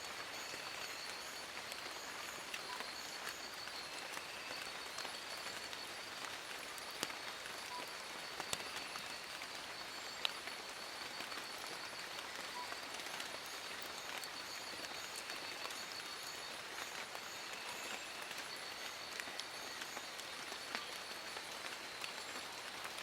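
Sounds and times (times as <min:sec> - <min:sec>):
rain on leaves: 0:00.0 - 0:23.0.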